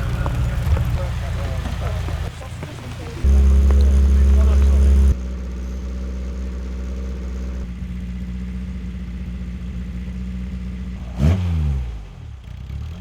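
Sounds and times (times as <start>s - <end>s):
engine revving: 0.0s - 13.0s
racing engine running: 0.0s - 13.0s.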